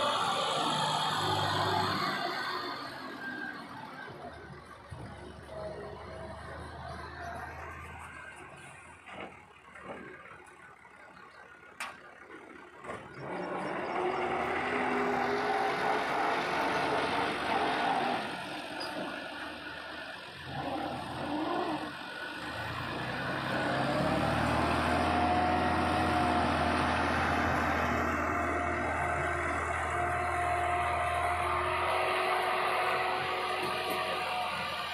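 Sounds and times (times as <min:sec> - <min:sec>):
tractor engine revving: 0:00.0 - 0:34.9.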